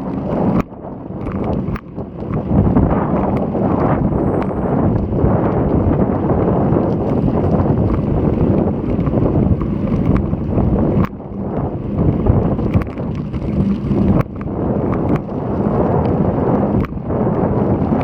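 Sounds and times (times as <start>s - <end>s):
faint clicks: 0.0s - 6.0s, 6.7s - 18.0s
wind buffeting microphone: 0.0s - 18.0s.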